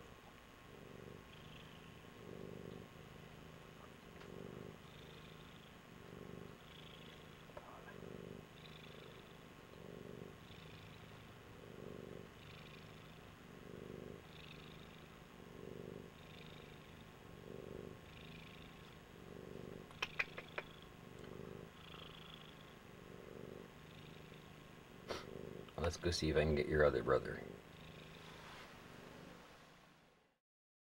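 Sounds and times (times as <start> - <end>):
cat purring: 0.0 - 30.4.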